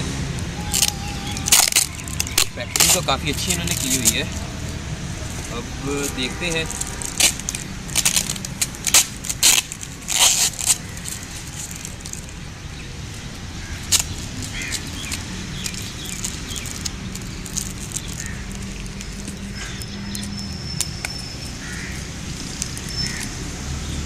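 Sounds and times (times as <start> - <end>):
parcel wrapping crinkling: 0.6 - 23.5.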